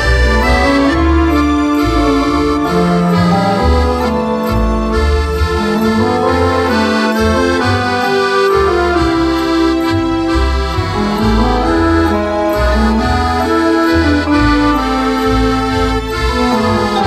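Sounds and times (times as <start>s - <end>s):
accordion playing a tune: 0.0s - 17.0s.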